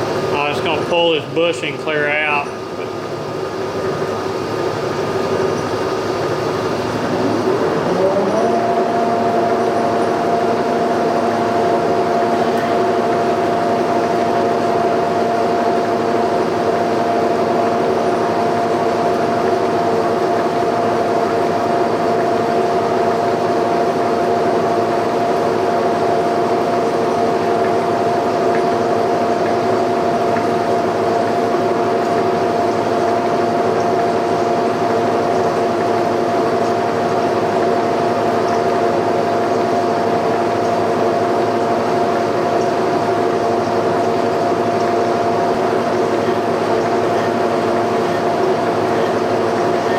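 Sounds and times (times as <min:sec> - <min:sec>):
boring machine whine: 0:00.0 - 0:49.9.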